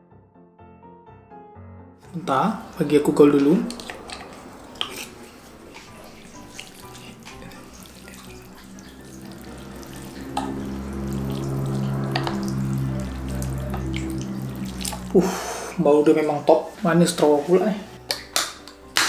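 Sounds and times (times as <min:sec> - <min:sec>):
soft background music: 0:00.0 - 0:19.0
broth sloshing: 0:02.0 - 0:18.6.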